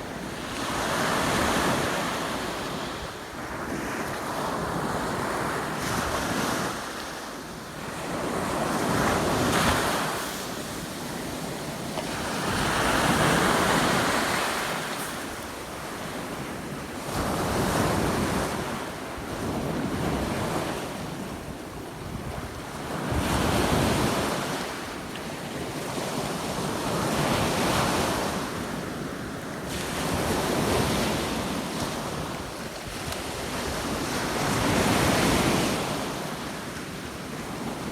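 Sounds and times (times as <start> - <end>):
rough sea waves breaking on shore: 0.0 - 37.9.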